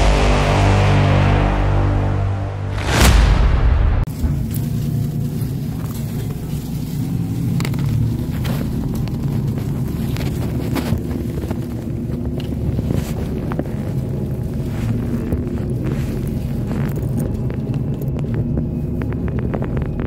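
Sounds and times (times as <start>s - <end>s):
bus engine droning: 0.0s - 3.0s, 3.7s - 20.0s
road noise: 0.0s - 20.0s.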